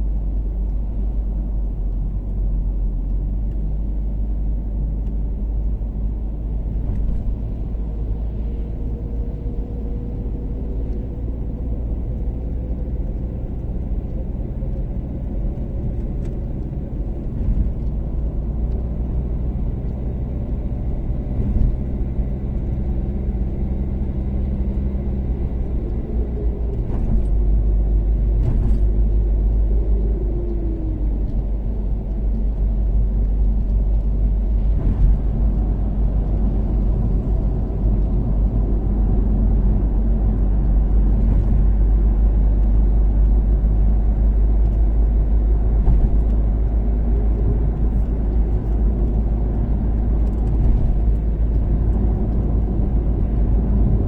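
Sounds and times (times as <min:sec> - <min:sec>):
car engine cruising: 0:00.0 - 0:54.0
tyre and road noise: 0:00.0 - 0:54.0.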